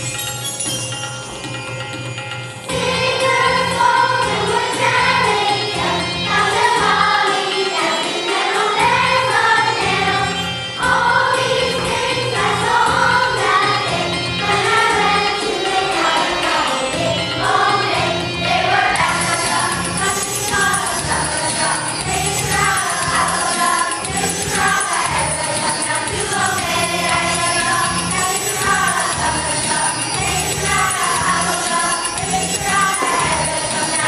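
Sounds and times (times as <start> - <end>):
instrumental backing music: 0.0 - 34.0
children's choir singing: 2.7 - 34.0.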